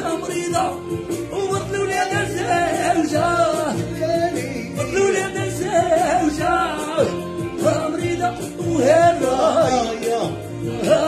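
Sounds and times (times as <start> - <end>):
instrumental backing: 0.0 - 11.0
man singing: 0.0 - 11.0.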